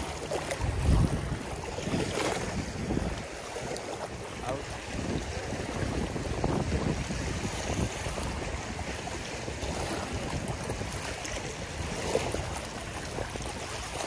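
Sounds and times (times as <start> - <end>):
waves lapping over rock: 0.0 - 14.0
wind rumble on microphone: 0.0 - 14.0.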